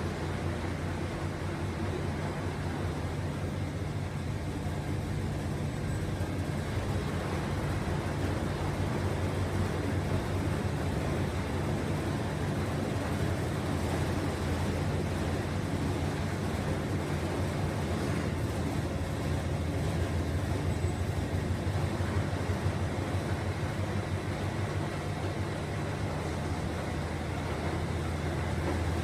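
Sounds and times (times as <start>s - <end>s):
washing machine running: 0.0s - 29.0s.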